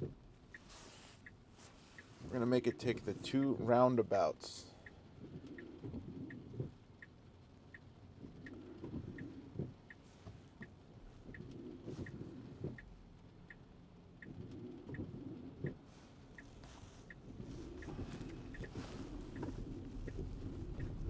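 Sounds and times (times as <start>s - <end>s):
turn signal ticking: 0.0s - 21.0s.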